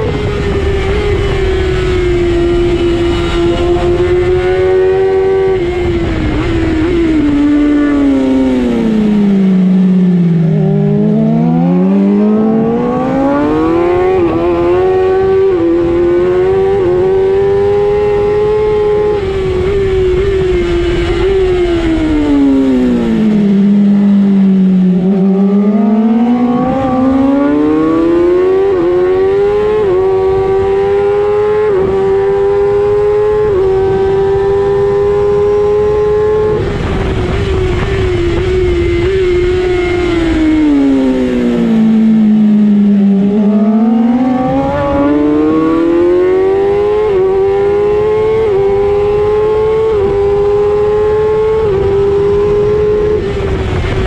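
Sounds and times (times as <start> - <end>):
racing motorcycle engine revving: 0.0 - 54.0.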